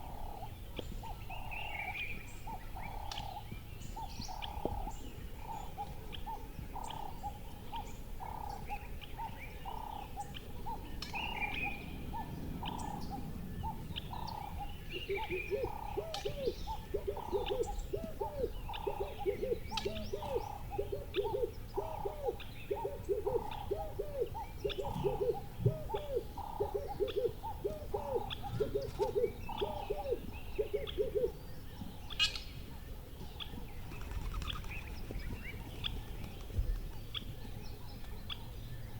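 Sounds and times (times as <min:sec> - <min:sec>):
bird low hooting notes: 0:00.0 - 0:38.9.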